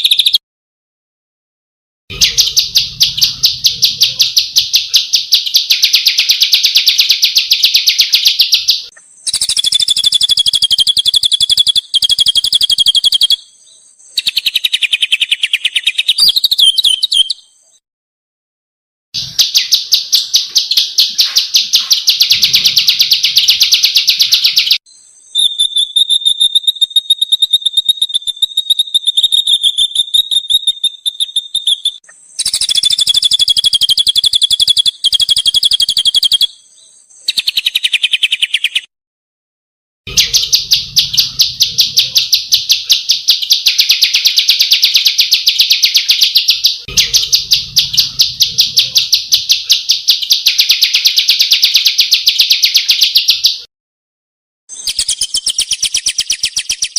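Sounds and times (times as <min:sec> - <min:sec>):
songbirds trilling: 0:02.1 - 0:17.8, 0:19.2 - 0:38.9, 0:40.1 - 0:53.7.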